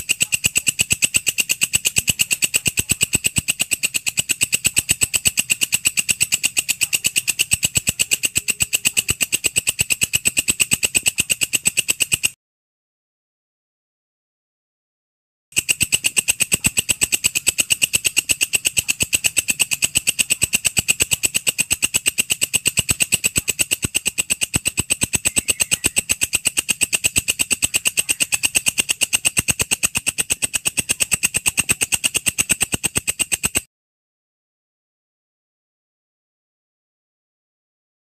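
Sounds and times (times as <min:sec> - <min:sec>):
insect shrill chirping: 0:00.0 - 0:12.3, 0:15.6 - 0:33.7.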